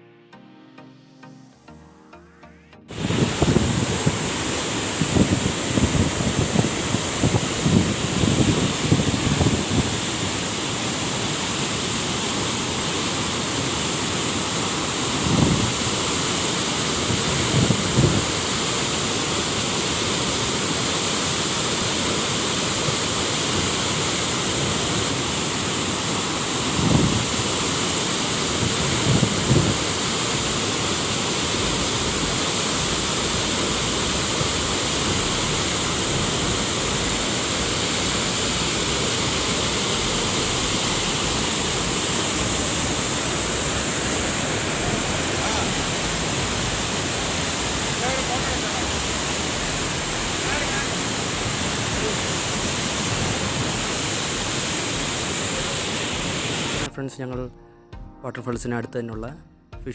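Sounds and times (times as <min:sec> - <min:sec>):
waterfall rushing: 0:02.9 - 0:56.9.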